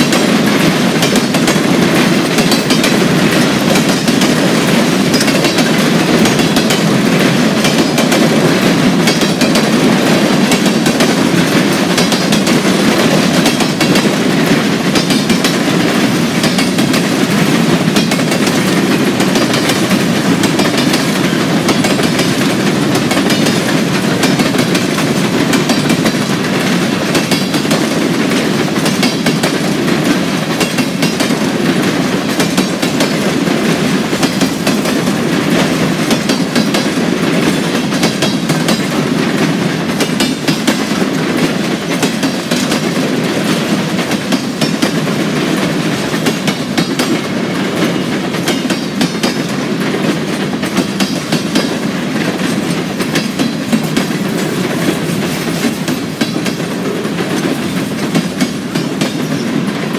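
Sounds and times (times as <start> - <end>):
train wheels rumbling on rail: 0.0 - 59.9
wheels clicking over rail joints: 0.0 - 59.9.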